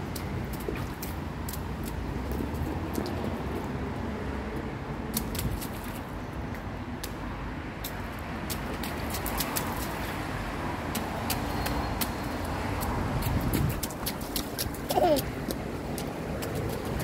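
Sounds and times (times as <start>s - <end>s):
water dripping: 0.0s - 3.8s, 5.1s - 17.0s
boots splashing in puddle: 0.0s - 17.0s.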